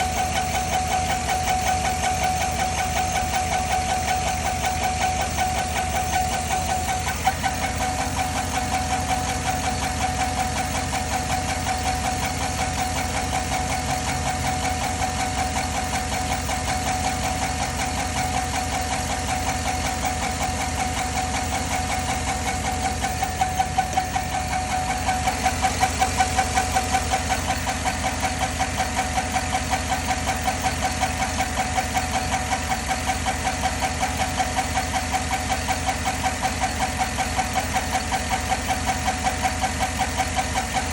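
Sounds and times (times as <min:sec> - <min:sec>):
car engine idling: 0:00.0 - 0:40.9
engine ticking: 0:00.0 - 0:40.9
steady whine: 0:00.0 - 0:40.9.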